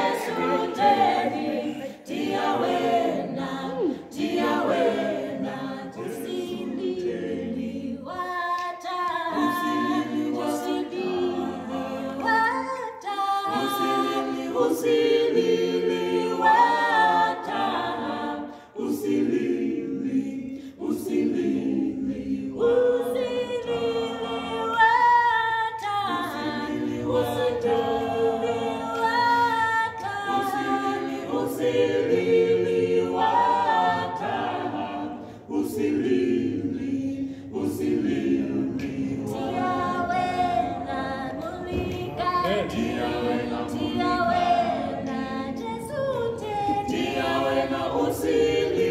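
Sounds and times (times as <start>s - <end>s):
a cappella quartet singing gospel: 0.0s - 48.9s.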